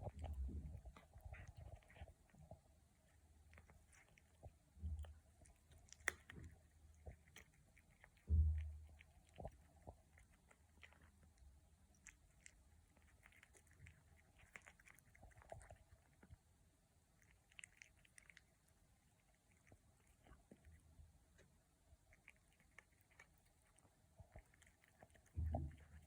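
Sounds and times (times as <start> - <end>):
cat chewing peas: 0.0 - 26.0.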